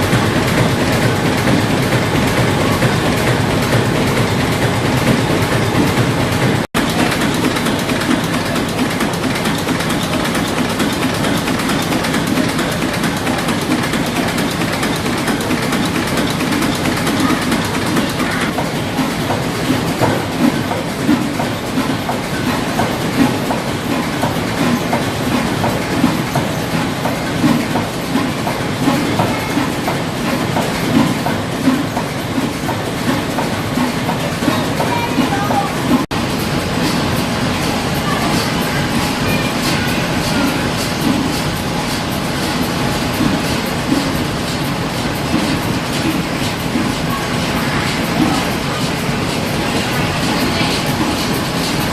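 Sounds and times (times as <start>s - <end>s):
stationary engines rumbling: 0.0s - 51.9s.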